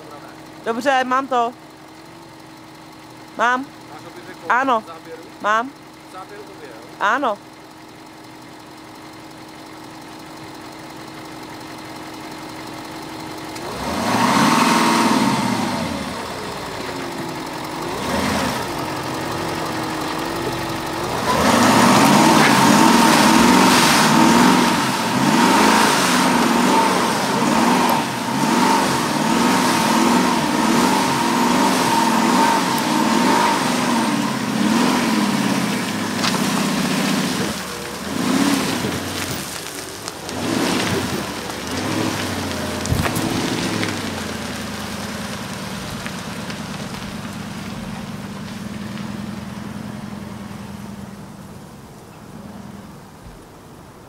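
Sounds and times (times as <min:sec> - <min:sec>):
tyres churning through mud: 0:00.0 - 0:53.2
diesel engine revving: 0:00.0 - 0:54.0.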